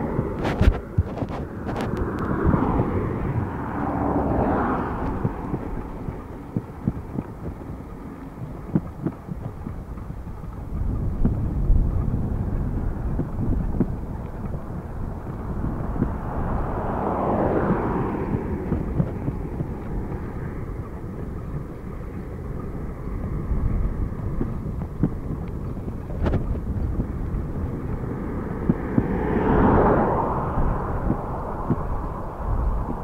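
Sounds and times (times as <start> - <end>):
vehicles passing: 0.0 - 33.0
wind rumbling on microphone: 0.0 - 33.0.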